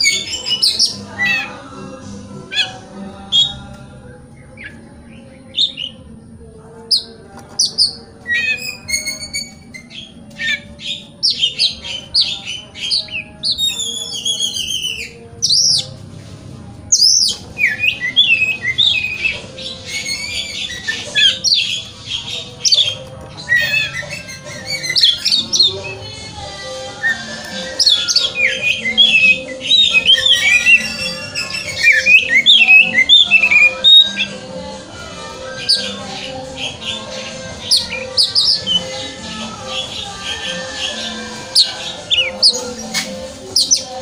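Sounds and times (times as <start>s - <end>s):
bird singing whistled trills: 0.0s - 1.5s, 6.9s - 15.9s, 16.9s - 26.2s, 26.9s - 34.4s, 35.2s - 44.0s.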